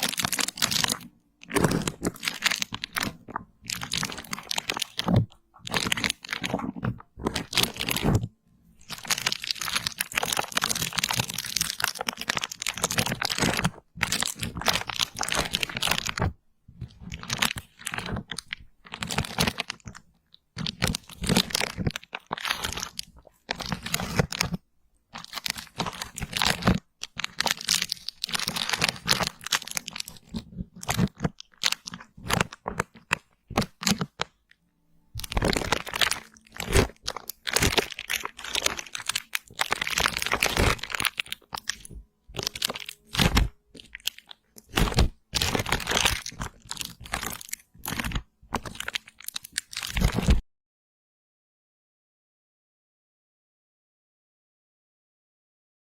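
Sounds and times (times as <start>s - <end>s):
close crunching and crackling: 0.0s - 50.4s.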